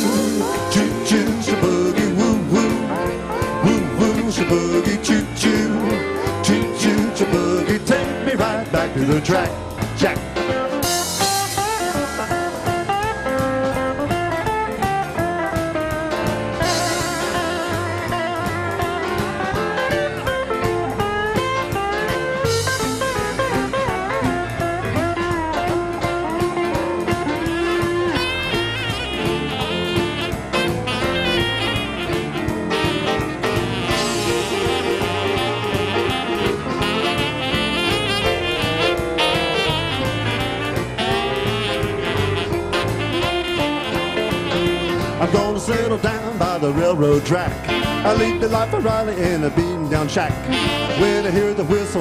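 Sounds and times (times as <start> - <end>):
saxophone: 0.0 - 7.8, 10.2 - 45.6, 47.6 - 48.6, 50.4 - 52.0
western swing band playing: 0.0 - 52.0.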